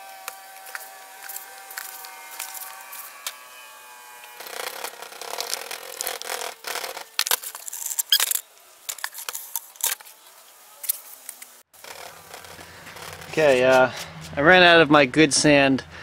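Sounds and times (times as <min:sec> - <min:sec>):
gritty sand scraping: 0:00.0 - 0:14.8.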